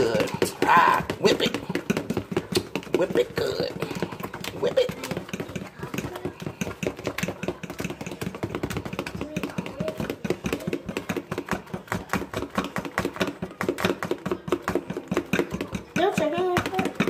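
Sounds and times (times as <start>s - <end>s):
fork beating batter in bowl: 0.0s - 17.0s.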